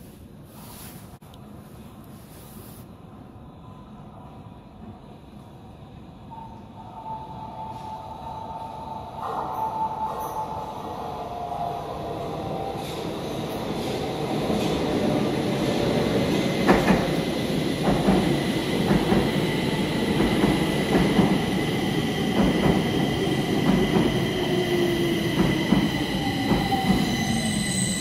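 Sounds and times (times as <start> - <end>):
train rumbling and braking: 0.0 - 28.0.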